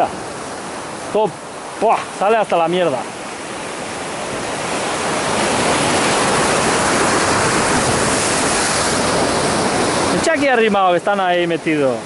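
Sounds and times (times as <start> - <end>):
surf breaking on rocks: 0.0 - 12.0.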